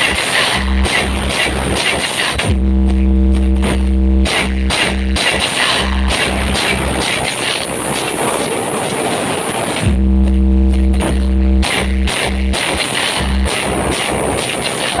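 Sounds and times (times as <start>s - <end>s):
bass-heavy music over sound system: 0.0s - 7.4s, 9.8s - 15.0s.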